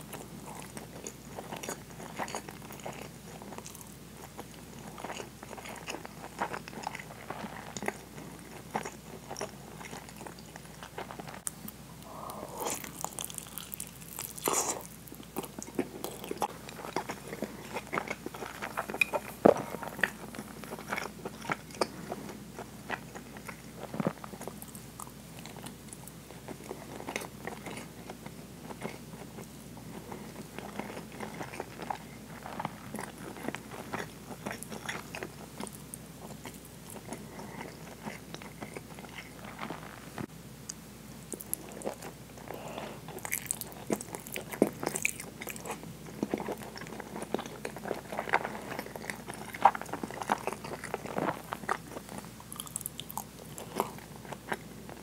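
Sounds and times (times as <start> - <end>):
close chewing and mouth clicks: 0.0 - 55.0.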